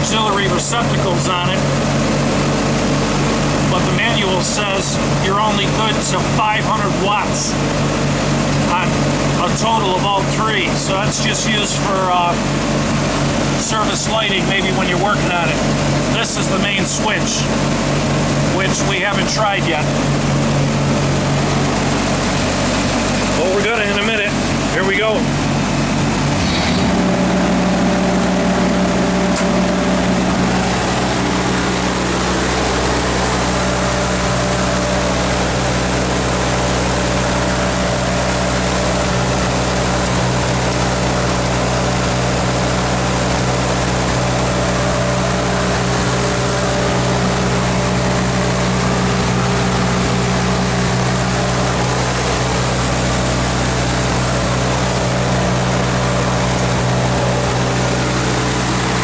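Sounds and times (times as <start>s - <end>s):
generator engine running steadily: 0.0s - 59.0s.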